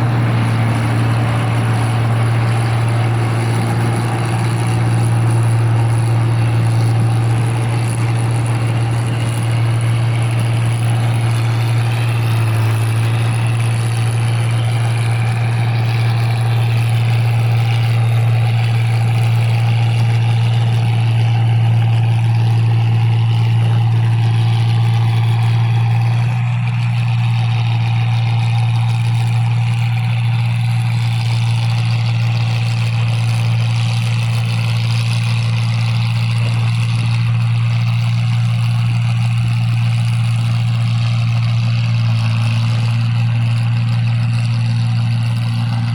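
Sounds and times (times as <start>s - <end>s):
combine harvester engine drone: 0.0s - 45.9s.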